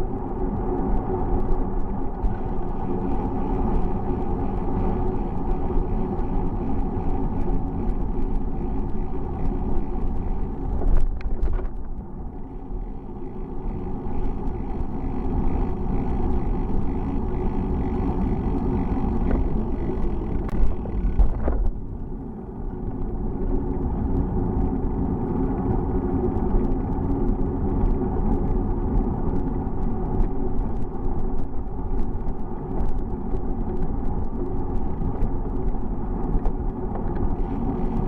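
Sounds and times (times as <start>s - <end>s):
bicycle road and drivetrain noise: 0.0s - 38.0s
wind rumble on microphone: 0.0s - 38.0s.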